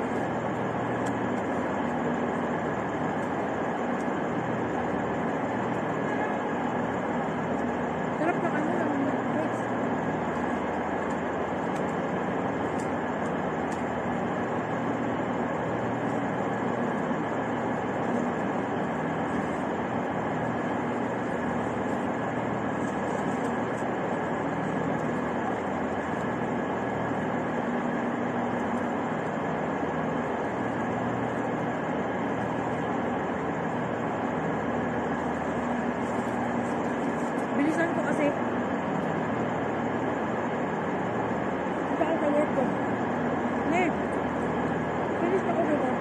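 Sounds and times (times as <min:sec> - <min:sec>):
faint hum: 0:00.0 - 0:46.0.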